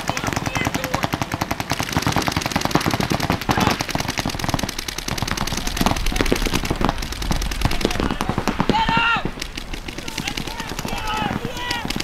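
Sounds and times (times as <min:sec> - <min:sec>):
paintball markers firing: 0:00.0 - 0:12.0.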